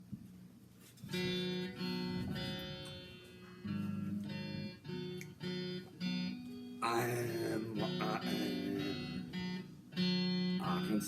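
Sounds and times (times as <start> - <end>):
guitar strumming chords: 1.0 - 11.0.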